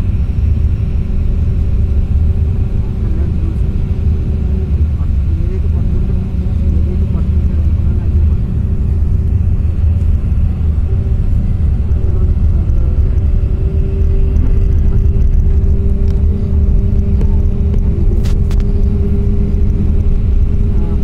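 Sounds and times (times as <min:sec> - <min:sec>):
steady hum: 0:00.0 - 0:21.0
tyre and engine rumble: 0:00.0 - 0:21.0.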